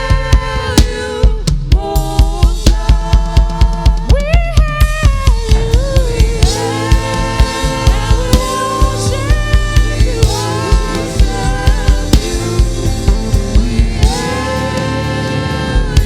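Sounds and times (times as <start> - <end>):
drum kit beat: 0.0 - 16.0
gospel band music: 0.0 - 16.0.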